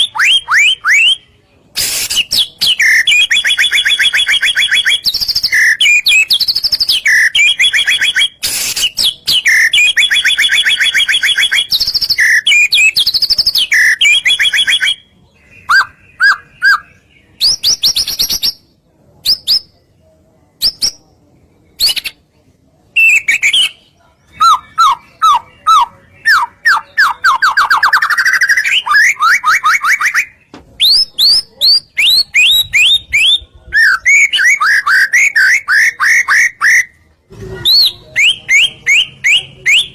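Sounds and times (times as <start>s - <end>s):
songbird singing varied song: 0.0s - 37.0s, 37.7s - 39.9s.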